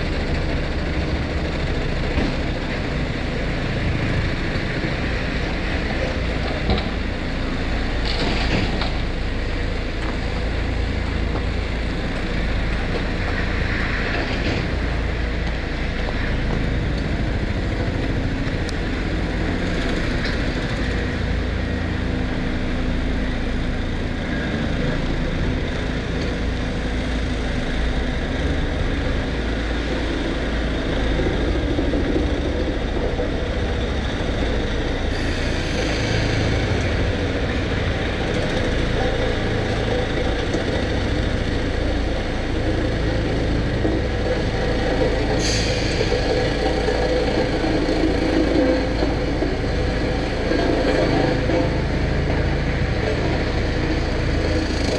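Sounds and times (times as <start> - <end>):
heavy diesel machinery rumble: 0.0 - 54.9.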